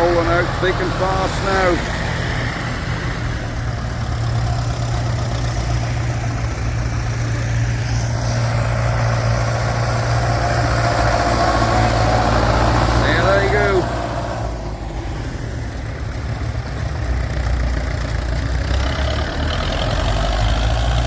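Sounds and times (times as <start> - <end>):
tractor engines droning: 0.0 - 21.0.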